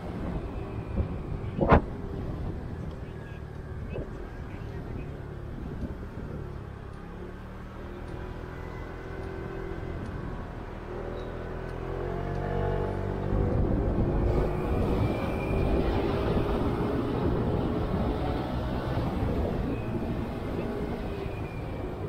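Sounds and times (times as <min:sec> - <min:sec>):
road and wind noise: 0:00.0 - 0:22.0
vehicle engine hum: 0:00.0 - 0:22.0.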